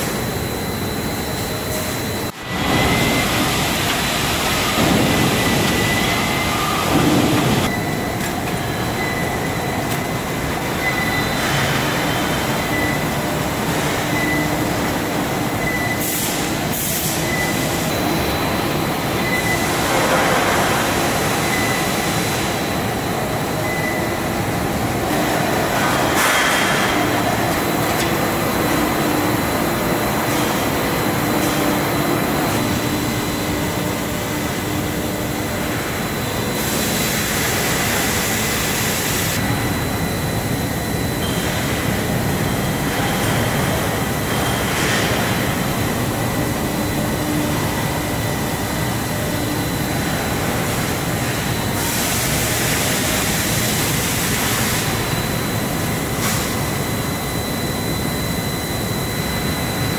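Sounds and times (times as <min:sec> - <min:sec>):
industrial machinery rumble and hiss: 0:00.0 - 0:59.9.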